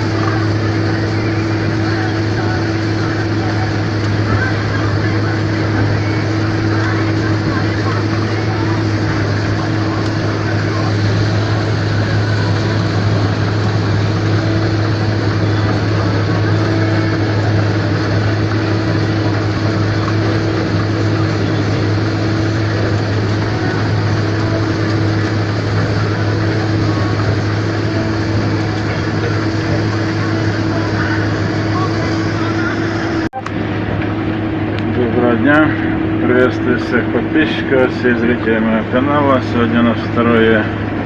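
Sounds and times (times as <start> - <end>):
combine harvester running: 0.0 - 41.0.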